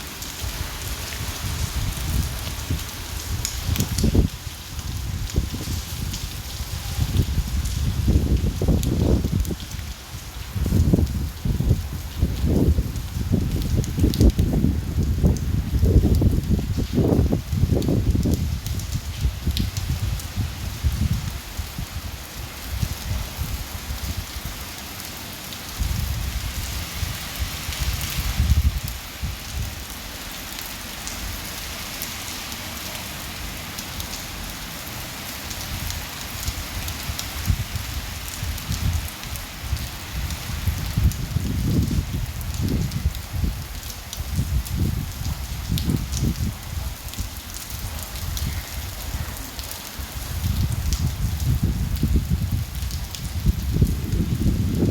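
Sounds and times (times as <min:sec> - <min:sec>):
gusting wind rumbling: 0:00.0 - 0:24.6, 0:25.7 - 0:29.9, 0:35.6 - 0:49.4, 0:50.0 - 0:54.9
rain falling: 0:00.0 - 0:54.9.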